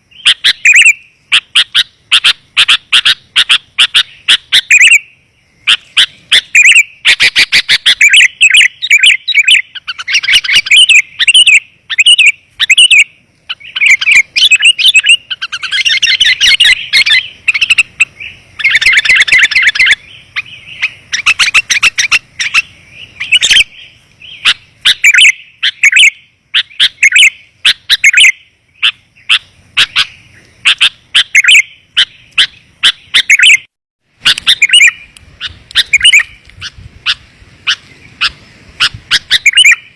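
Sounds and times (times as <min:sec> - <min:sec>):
bulbul rapid chirping: 0:00.0 - 0:39.9.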